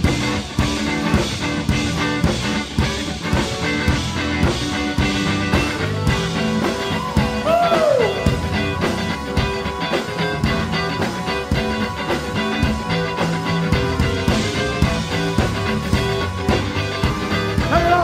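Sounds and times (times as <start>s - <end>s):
drums steady beat: 0.0s - 18.0s
live band instrumental groove: 0.0s - 18.0s.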